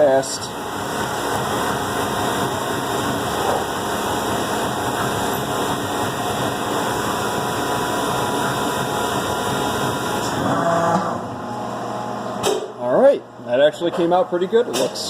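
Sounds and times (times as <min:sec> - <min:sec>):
milling machine running: 0:00.0 - 0:12.4.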